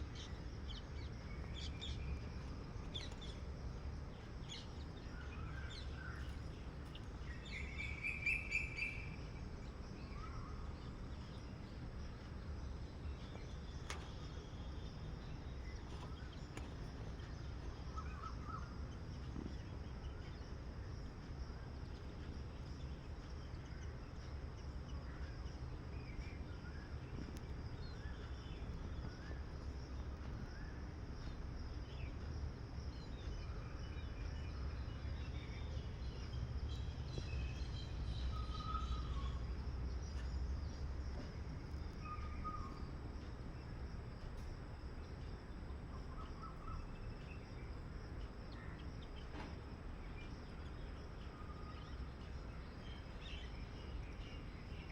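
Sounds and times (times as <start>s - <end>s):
steady low rumble: 0.0s - 54.9s
bird chirps: 4.1s - 43.8s, 44.4s - 54.9s.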